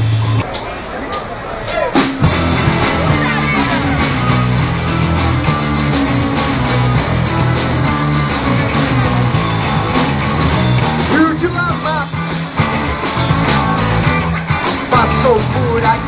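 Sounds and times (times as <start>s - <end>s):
live rock band playing: 0.0s - 16.0s
high bending melody line: 2.2s - 16.0s.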